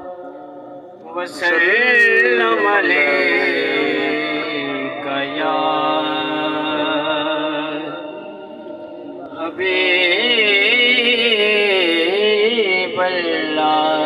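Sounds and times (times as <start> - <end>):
man chanting through loudspeaker: 0.0 - 14.0.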